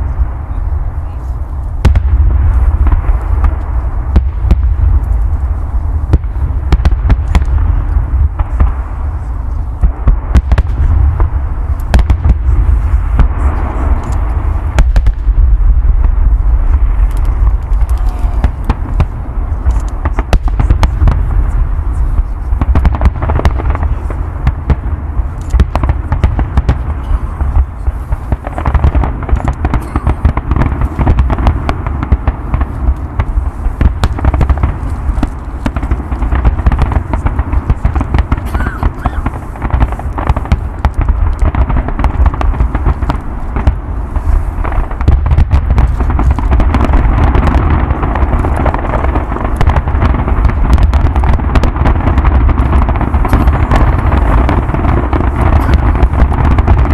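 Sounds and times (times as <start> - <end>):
fireworks bursting and crackling: 0.0 - 56.9
heavy low rumble: 0.0 - 56.9.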